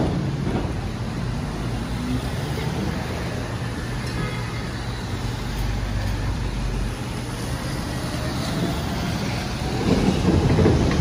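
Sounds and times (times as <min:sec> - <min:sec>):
tyres hissing on wet asphalt: 0:00.0 - 0:11.0.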